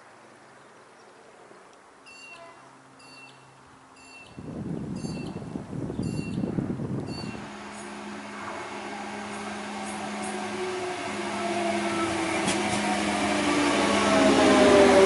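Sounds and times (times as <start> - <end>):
diesel railcar arriving: 2.0 - 15.0.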